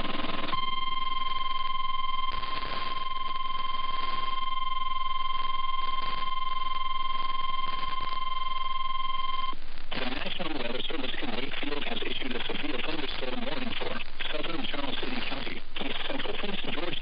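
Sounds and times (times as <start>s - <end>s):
radio hiss: 0.0s - 17.0s
static crackle: 0.0s - 17.0s.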